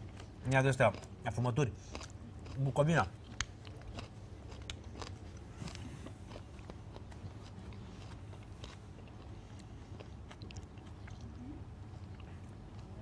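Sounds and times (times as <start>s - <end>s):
faint steady hum: 0.0s - 13.0s
man chewing meat: 0.0s - 13.0s.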